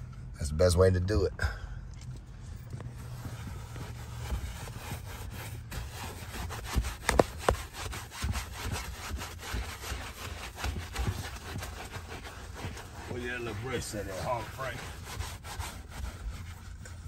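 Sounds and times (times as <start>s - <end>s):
brush scrubbing upholstery: 3.0s - 17.0s.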